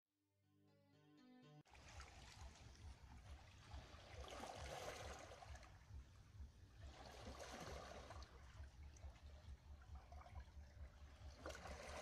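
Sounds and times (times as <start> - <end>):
water lapping over rocks: 1.7 - 12.0.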